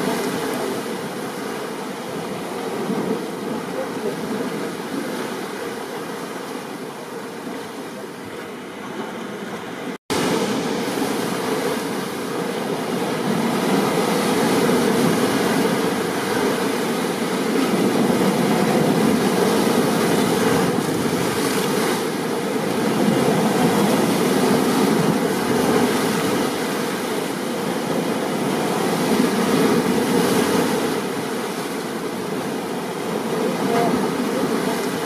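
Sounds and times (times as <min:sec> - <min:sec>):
ocean surf: 0:00.0 - 0:35.0.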